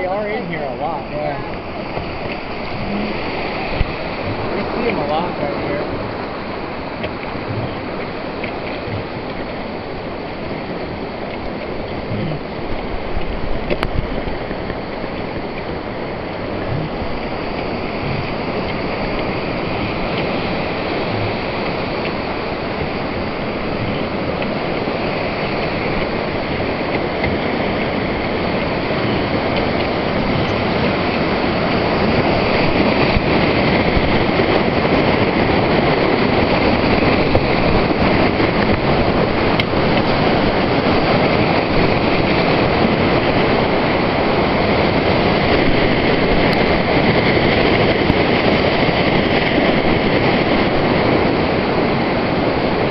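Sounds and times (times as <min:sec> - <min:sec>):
whitewater rapids rushing: 0:00.0 - 0:52.9.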